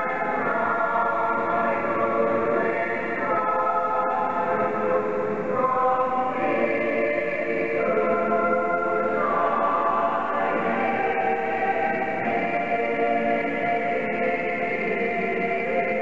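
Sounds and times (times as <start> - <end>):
mixed choir singing in harmony: 0.0 - 16.0.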